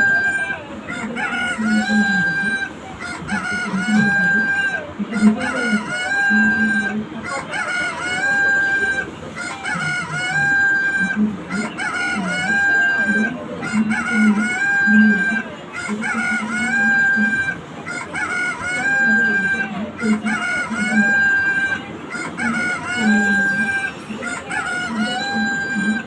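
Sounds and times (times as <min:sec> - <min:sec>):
rooster crow alarm: 0:00.0 - 0:26.0.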